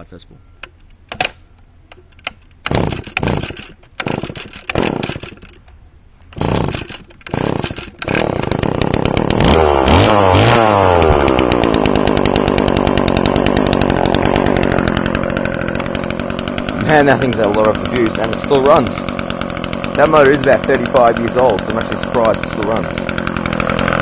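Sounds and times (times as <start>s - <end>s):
string trimmer motor running: 1.9s - 5.7s, 6.3s - 24.0s.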